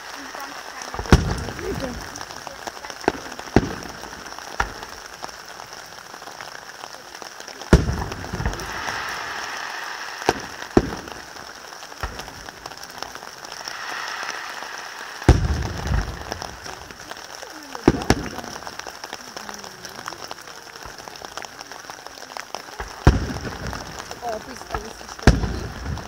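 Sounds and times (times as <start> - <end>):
firework shells bursting: 0.0 - 6.8, 7.6 - 22.0, 22.7 - 26.0
crackling hiss of fireworks: 0.0 - 26.0.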